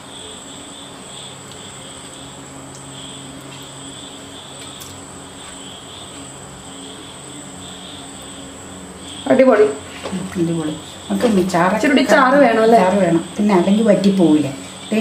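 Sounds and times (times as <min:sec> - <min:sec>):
insects trilling: 0:00.0 - 0:15.0
pulsing insect chirping: 0:00.0 - 0:15.0.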